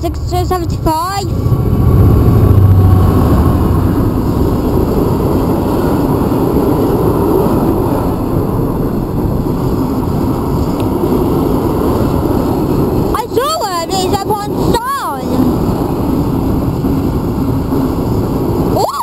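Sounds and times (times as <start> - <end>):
freight wagons rumbling past: 0.0 - 18.8
diesel locomotive engine drone: 0.0 - 19.0.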